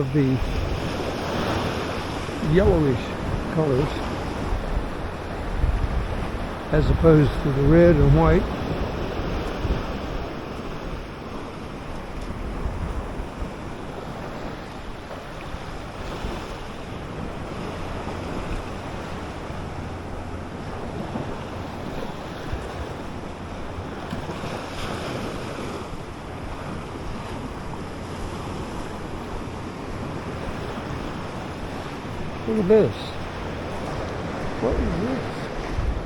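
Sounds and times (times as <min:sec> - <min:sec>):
surf washing on shore: 0:00.0 - 0:36.0
wind buffeting microphone: 0:00.0 - 0:36.0.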